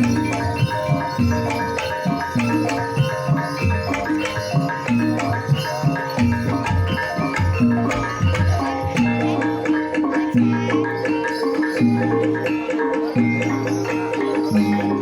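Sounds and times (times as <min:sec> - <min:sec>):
gamelan pitched percussion ringing: 0:00.0 - 0:15.0
hand-played drum pattern: 0:00.0 - 0:15.0.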